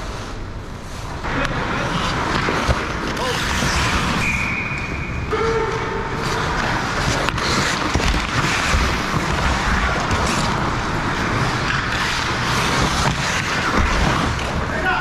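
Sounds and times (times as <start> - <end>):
skates scraping ice: 0.0 - 15.0
hockey sticks clacking: 1.2 - 15.0.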